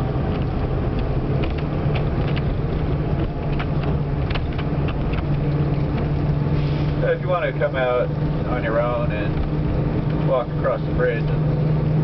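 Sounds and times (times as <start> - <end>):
engine and road drone: 0.0 - 12.0.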